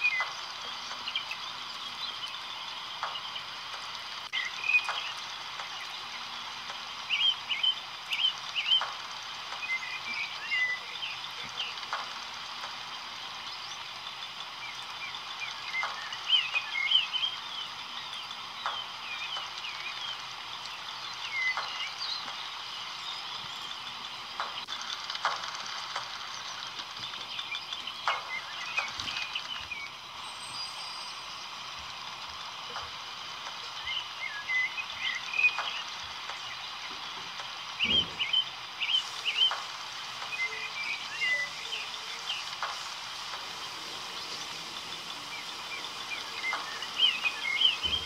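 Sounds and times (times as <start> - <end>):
sharp clicks: 0.0 - 30.0, 31.4 - 48.0
short chirping calls: 0.0 - 48.0
steady background hiss: 0.0 - 48.0.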